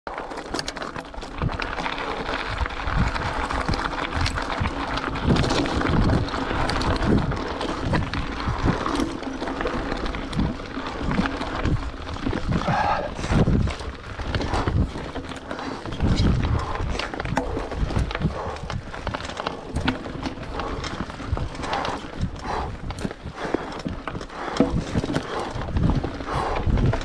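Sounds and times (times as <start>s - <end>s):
bike thumps and rattles: 0.1s - 27.0s
bike rushing noise: 0.2s - 27.0s.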